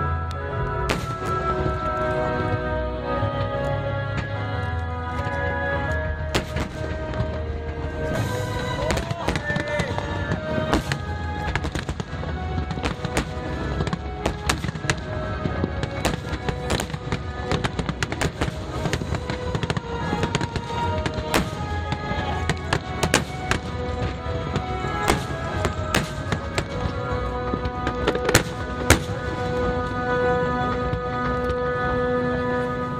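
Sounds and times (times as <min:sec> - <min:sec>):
music playing: 0:00.0 - 0:32.9
fireworks bursting and crackling: 0:00.7 - 0:32.7.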